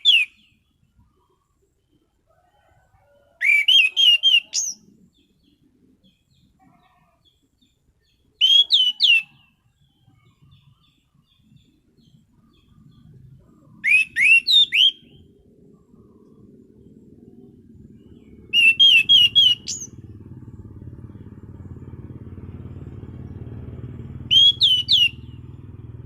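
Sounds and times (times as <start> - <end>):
thrush singing whistled notes: 0.0 - 2.1, 3.3 - 6.5, 7.6 - 26.0.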